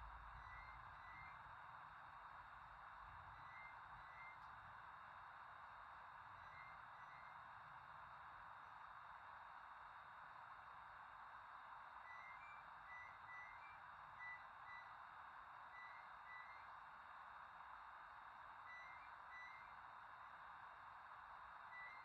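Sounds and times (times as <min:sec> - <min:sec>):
room tone hiss: 0:00.0 - 0:22.0.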